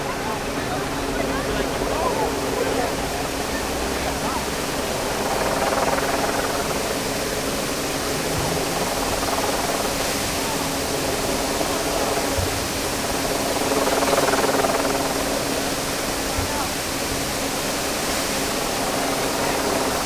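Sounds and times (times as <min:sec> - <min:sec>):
fountain water splashing into basin: 0:00.1 - 0:20.0.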